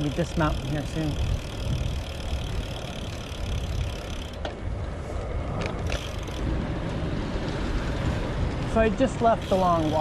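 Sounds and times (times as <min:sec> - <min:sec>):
bicycle clicks: 0:00.0 - 0:10.0
wind and road rumble: 0:00.0 - 0:10.0.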